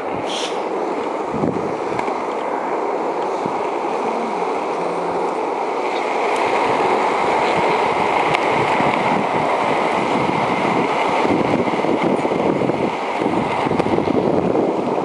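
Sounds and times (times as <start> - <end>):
skateboard wheels rolling on asphalt: 0.0 - 15.0
wind on microphone: 0.0 - 15.0.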